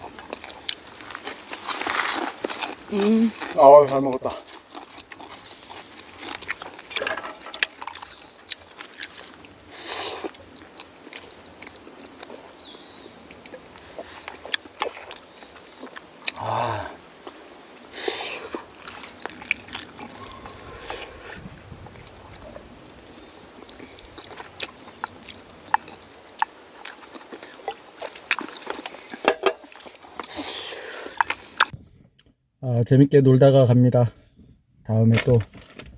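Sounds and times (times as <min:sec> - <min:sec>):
chewing and slurping noodles: 0:00.0 - 0:03.6, 0:04.3 - 0:31.8.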